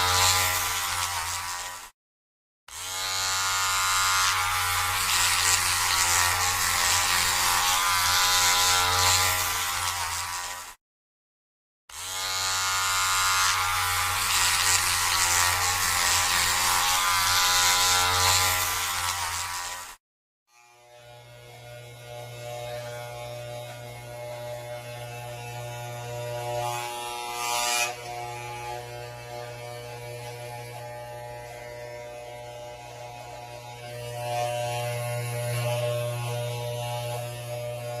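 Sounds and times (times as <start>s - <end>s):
electric hair clippers buzzing: 0.0s - 2.0s, 2.7s - 10.8s, 11.9s - 38.0s.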